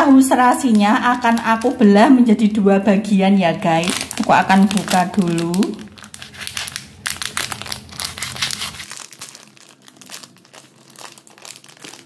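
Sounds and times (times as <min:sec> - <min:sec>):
plastic packaging crinkling: 0:00.6 - 0:01.9, 0:03.7 - 0:12.0.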